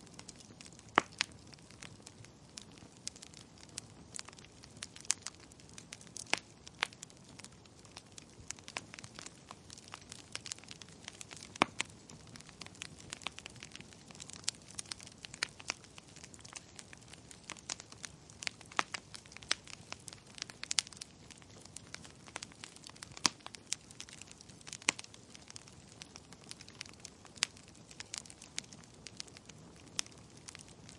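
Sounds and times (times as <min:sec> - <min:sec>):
burning logs crackling: 0:00.0 - 0:30.9
faint low hiss: 0:00.0 - 0:30.9.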